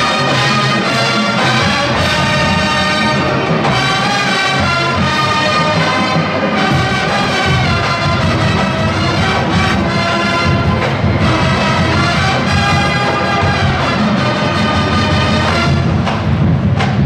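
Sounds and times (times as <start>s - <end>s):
drums: 0.0s - 17.0s
marching band brass chords: 0.0s - 17.0s
sharp percussion hits: 0.0s - 17.0s.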